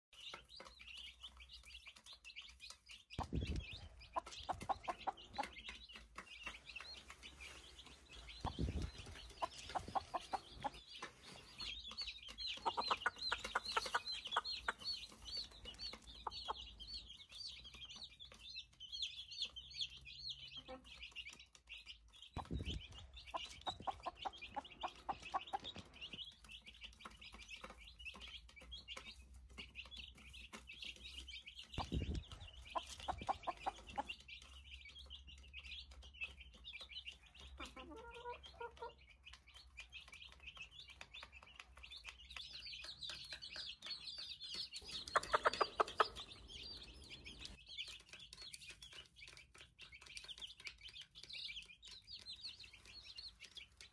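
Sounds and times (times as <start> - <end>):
baby chicks peeping: 0.1 - 53.9
chicken clucking: 0.2 - 53.8.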